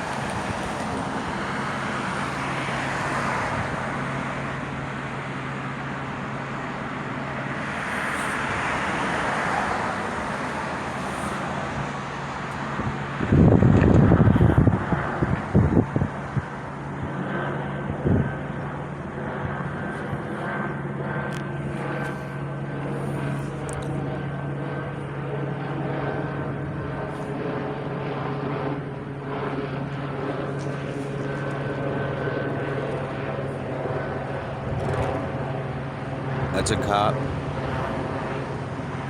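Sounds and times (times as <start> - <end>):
helicopter engine and rotors drone: 0.0 - 39.0.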